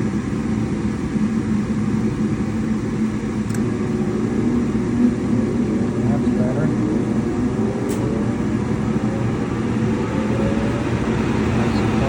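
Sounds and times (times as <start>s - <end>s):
furnace humming: 0.0s - 12.0s.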